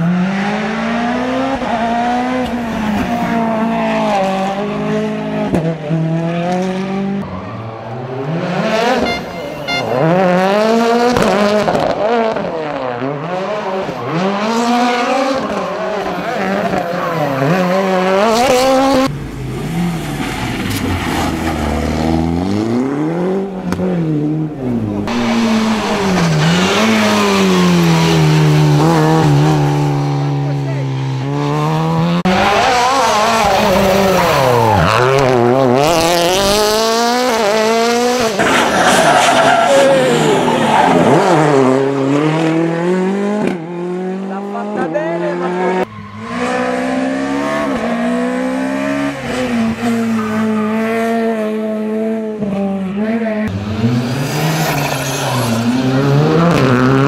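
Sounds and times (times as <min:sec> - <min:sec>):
rally car engine accelerating: 0:00.0 - 0:57.0.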